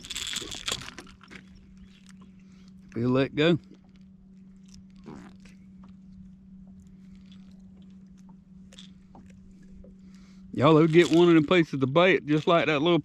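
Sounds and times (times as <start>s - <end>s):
faint handling clicks and rustles: 0.0s - 13.0s
steady low hum: 0.0s - 13.0s.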